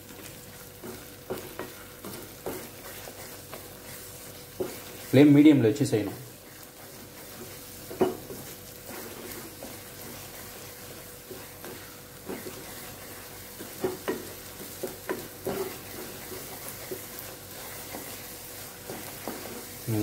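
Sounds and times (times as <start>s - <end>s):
food frying sizzle: 0.0s - 20.0s
spatula scraping pan: 0.6s - 20.0s.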